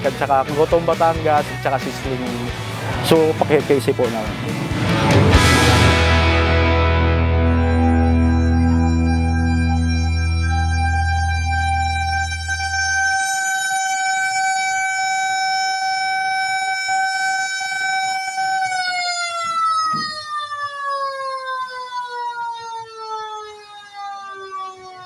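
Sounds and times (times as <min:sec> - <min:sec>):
fire truck siren wailing: 0:00.0 - 0:25.0.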